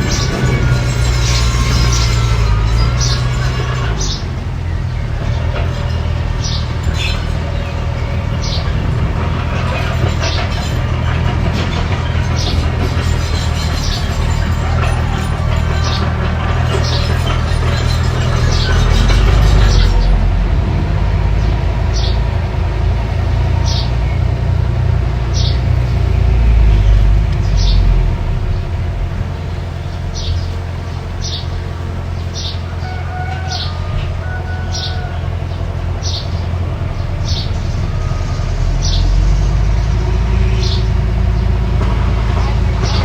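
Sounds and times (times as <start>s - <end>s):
bulldozer engine rumbling: 0.0s - 43.0s.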